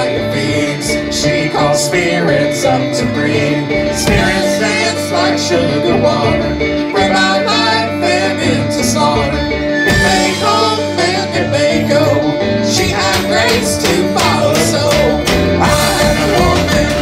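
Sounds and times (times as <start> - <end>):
live folk-rock band playing: 0.0 - 17.0.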